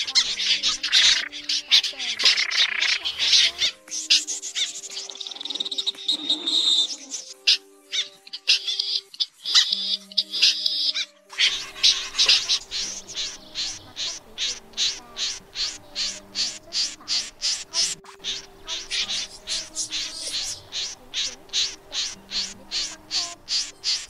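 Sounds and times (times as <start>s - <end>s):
short high bird calls: 0.0s - 24.0s.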